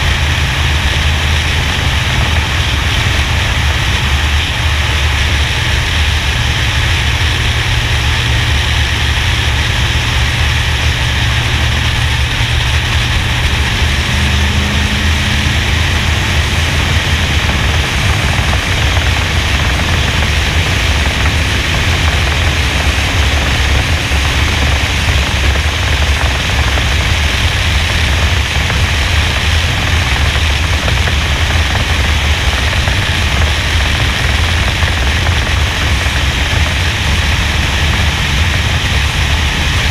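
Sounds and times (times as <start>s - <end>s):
race car engine drone: 0.0s - 39.9s
wind buffeting camera: 0.0s - 39.9s.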